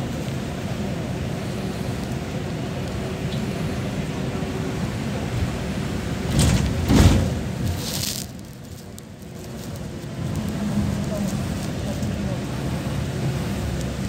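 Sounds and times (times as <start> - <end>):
bus passing on wet road: 0.0 - 14.0
vehicle rumbling on wet road: 0.0 - 14.0.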